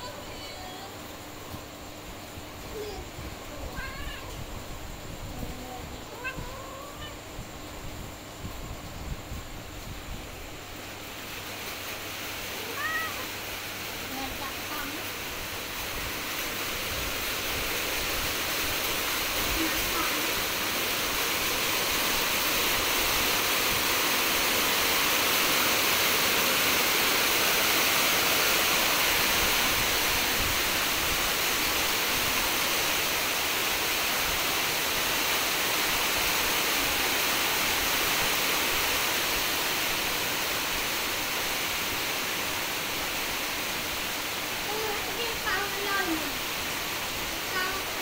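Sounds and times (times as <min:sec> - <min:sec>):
steady rushing hiss: 0:00.0 - 0:48.0.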